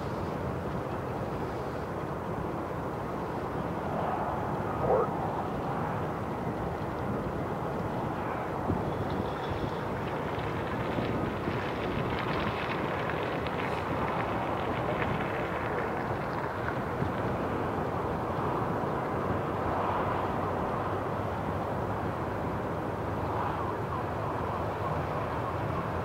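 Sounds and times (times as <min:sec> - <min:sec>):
distant aircraft engines rushing: 0:00.0 - 0:26.0.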